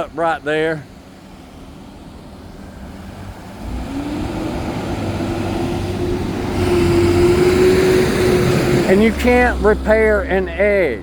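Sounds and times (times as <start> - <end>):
motor vehicle approaching: 0.0 - 11.0.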